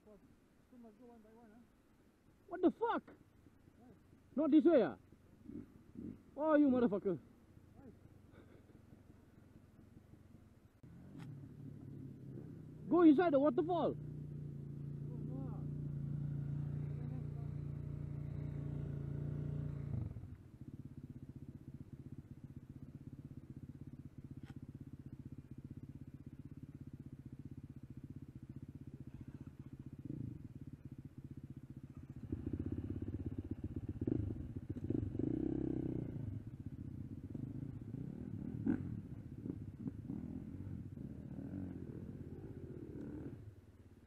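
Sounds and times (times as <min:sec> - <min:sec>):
dirt bike engines idling: 0:00.0 - 0:44.0.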